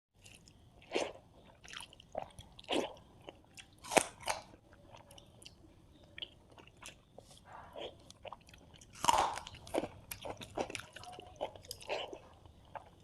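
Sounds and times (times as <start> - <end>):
person chewing crunchy food: 0.2 - 13.0.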